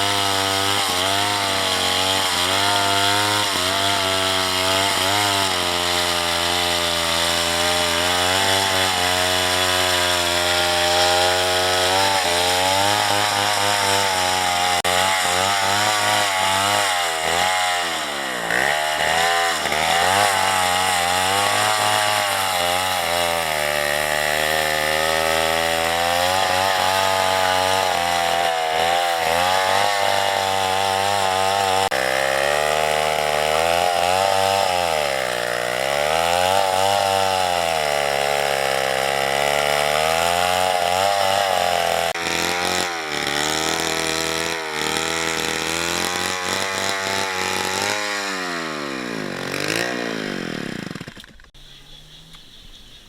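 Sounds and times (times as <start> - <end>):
chainsaw cutting wood: 0.0 - 51.6.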